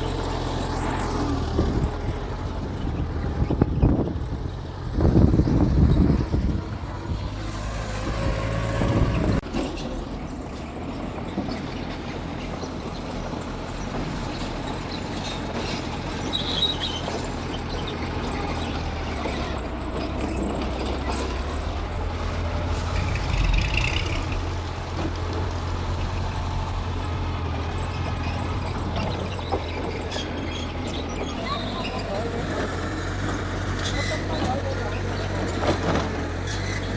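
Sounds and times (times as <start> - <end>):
bulldozer diesel engine humming: 0.0 - 36.9.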